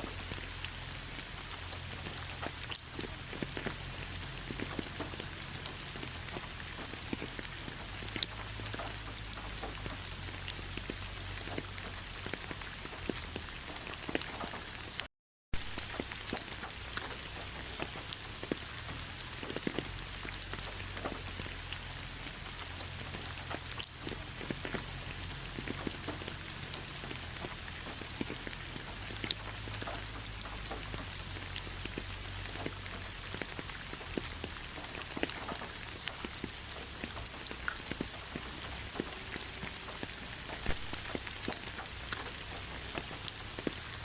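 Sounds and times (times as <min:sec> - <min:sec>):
rain falling on leaves: 0:00.0 - 0:44.0.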